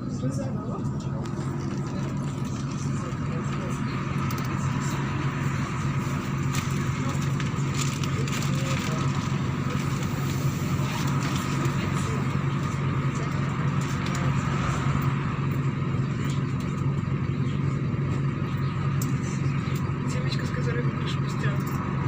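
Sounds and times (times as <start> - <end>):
bus engine hum: 0.0 - 22.0
road and cabin noise: 0.0 - 22.0.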